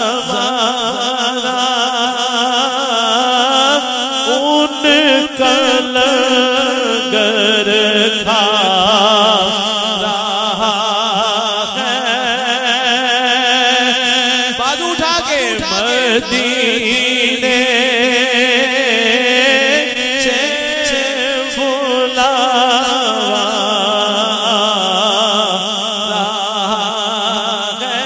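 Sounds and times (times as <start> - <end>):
man singing through a microphone: 0.0 - 28.0.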